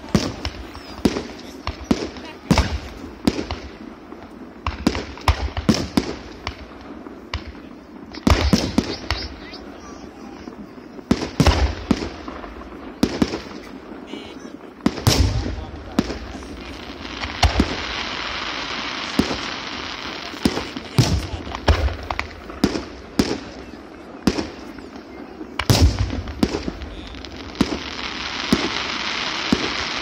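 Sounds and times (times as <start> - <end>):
fireworks bangs: 0.0 - 30.0
steady hiss: 0.0 - 30.0.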